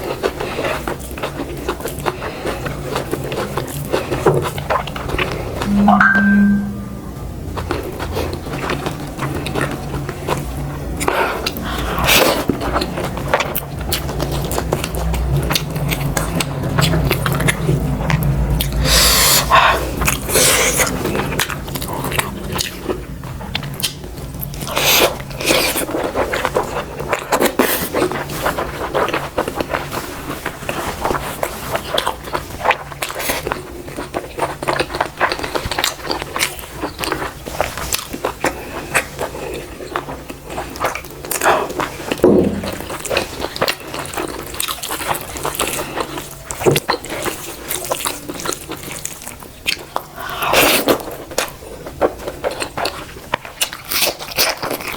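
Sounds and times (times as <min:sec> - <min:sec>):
chewing and biting food: 0:00.0 - 0:05.7, 0:07.5 - 0:54.9.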